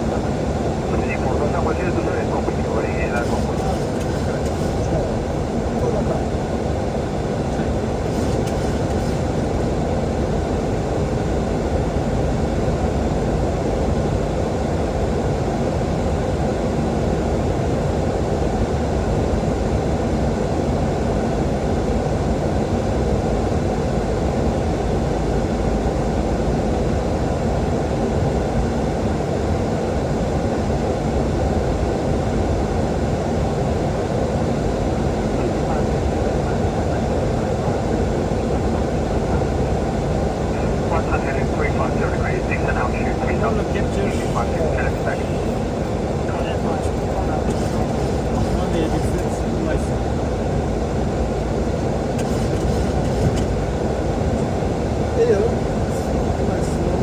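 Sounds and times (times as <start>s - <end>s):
cockpit airflow and engine rumble: 0.0s - 57.0s.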